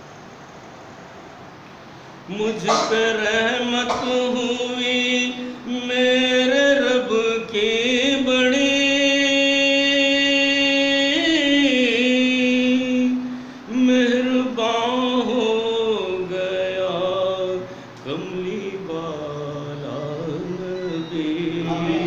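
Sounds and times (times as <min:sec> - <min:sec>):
man singing unaccompanied: 0:02.2 - 0:22.0.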